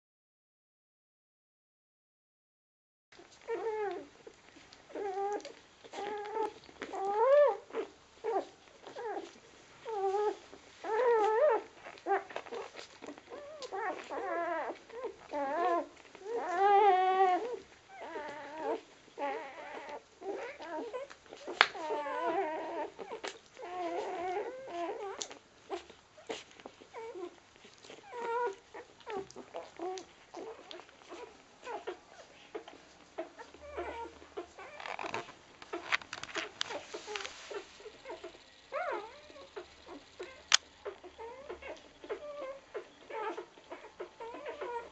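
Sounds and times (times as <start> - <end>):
puppies whimpering and squeaking: 3.2 - 44.9.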